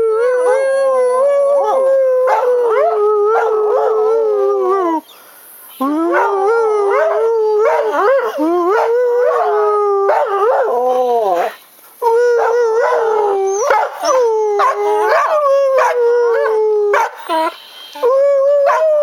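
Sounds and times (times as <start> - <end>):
dog howling: 0.0 - 5.0, 5.8 - 19.0.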